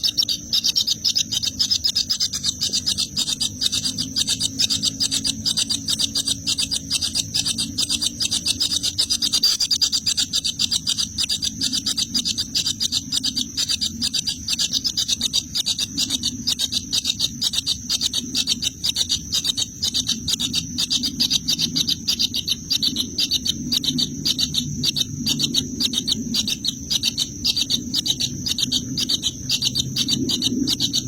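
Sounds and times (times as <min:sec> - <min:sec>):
nestlings chirping: 0:00.0 - 0:31.0.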